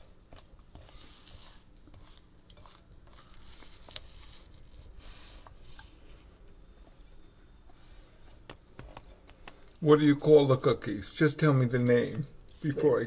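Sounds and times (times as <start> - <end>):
hands squishing dough: 0.0 - 10.5.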